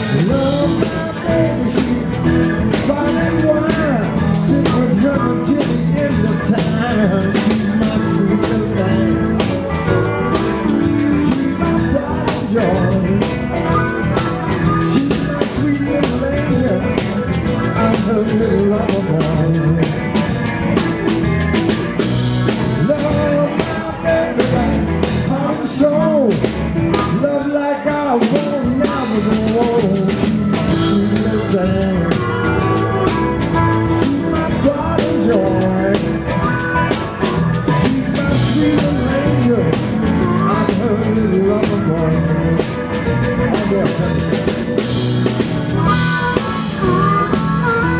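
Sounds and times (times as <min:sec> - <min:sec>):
harmonica: 0:00.0 - 0:26.2, 0:28.5 - 0:47.9
blues-rock band playing: 0:00.0 - 0:47.9
man singing: 0:00.0 - 0:47.9.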